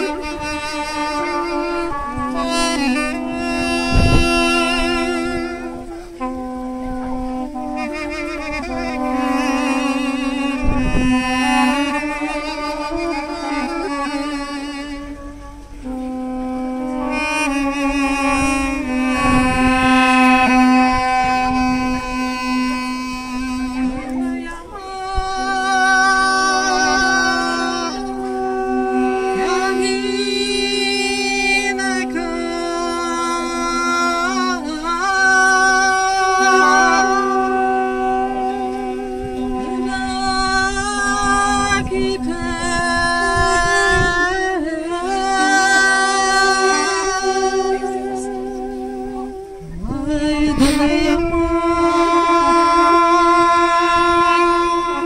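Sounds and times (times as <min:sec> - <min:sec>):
duduks playing mournful melody: 0:00.0 - 0:55.0
held drone note: 0:00.0 - 0:55.0.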